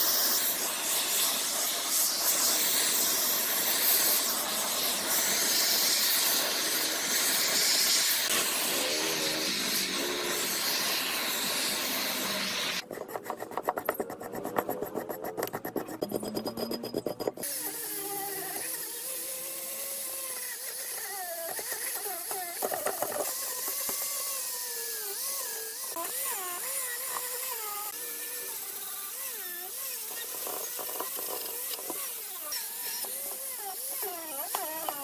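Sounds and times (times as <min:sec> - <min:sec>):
small power tool whining: 0:00.0 - 0:35.0.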